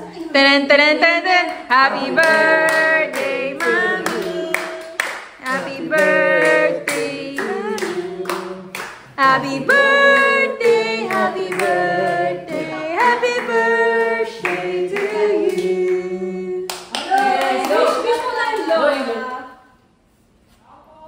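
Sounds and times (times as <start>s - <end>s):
group singing a birthday tune: 0.0s - 20.1s
people clapping along: 1.0s - 19.3s.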